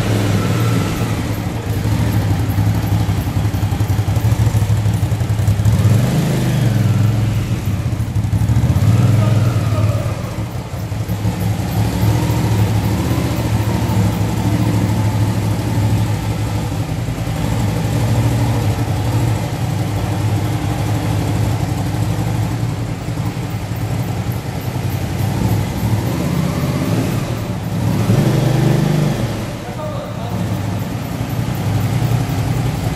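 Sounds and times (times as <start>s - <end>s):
motorcycle engine running slowly: 0.0s - 32.9s.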